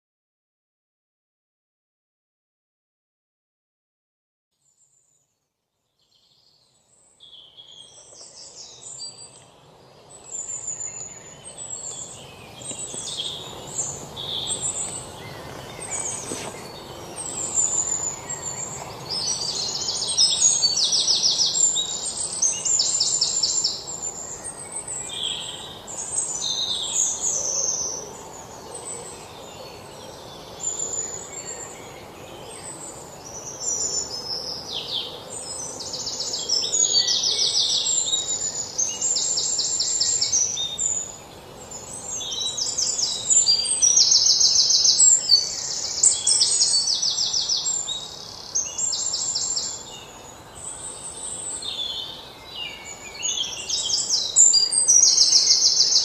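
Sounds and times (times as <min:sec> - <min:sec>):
outdoor background hiss: 0:04.6 - 0:56.0
birds chirping and singing: 0:06.0 - 0:56.0.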